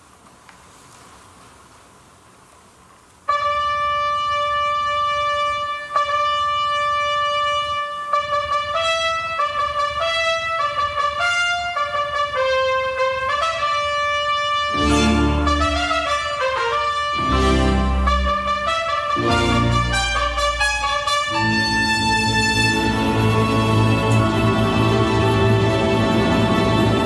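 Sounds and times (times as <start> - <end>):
orchestral music: 3.3 - 27.0
trumpets playing: 3.3 - 27.0.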